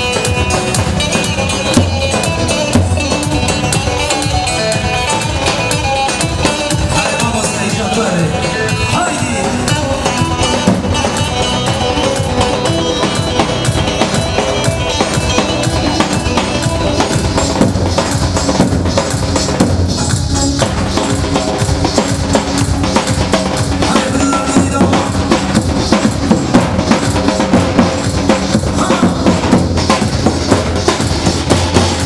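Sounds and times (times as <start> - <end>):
fast drum beat: 0.0 - 32.0
folk dance music with keyboard: 0.0 - 32.0.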